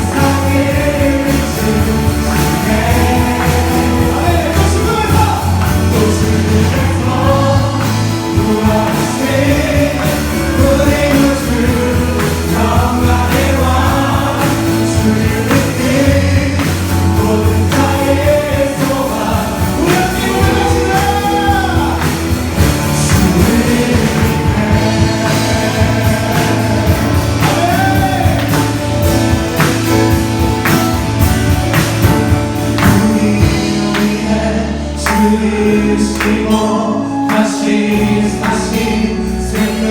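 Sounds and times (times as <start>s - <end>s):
drums beat: 0.0s - 36.5s
bass line: 0.0s - 39.9s
group singing praise song: 0.0s - 39.9s.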